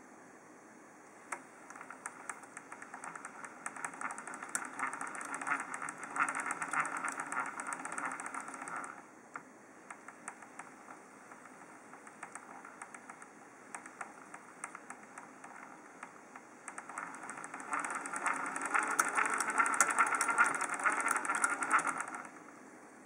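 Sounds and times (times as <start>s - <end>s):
fast gritty bearing clicking: 1.3s - 9.1s, 9.9s - 22.4s.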